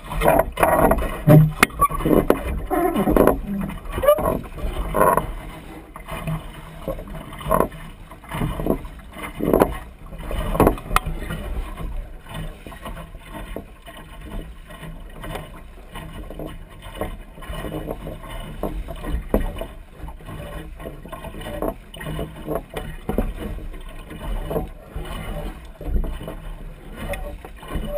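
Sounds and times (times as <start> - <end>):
water splashing against boat hull: 0.0 - 27.9.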